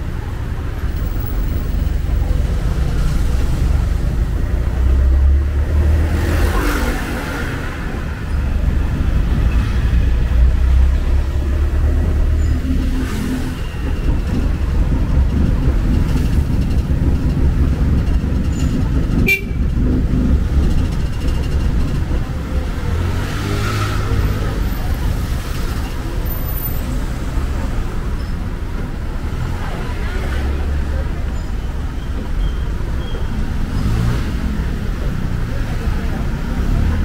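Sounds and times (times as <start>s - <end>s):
engine and road rumble: 0.0s - 37.0s
passing traffic: 0.0s - 37.0s.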